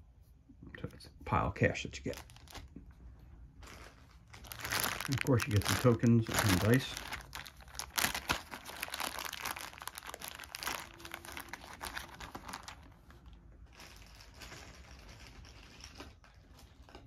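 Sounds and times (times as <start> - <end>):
plastic bag crinkling: 2.0 - 2.8, 3.6 - 17.0.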